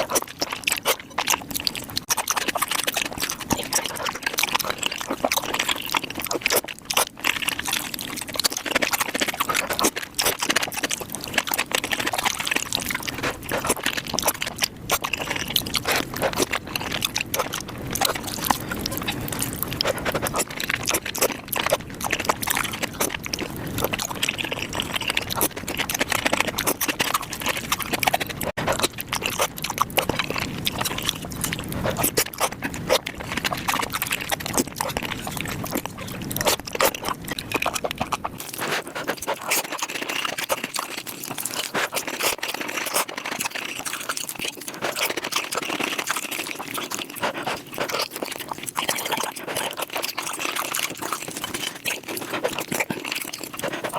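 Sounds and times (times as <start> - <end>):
sped-up chewing: 0.0 - 53.9
squeaky slurping: 0.0 - 53.9
wet mouth clicks: 0.0 - 53.9.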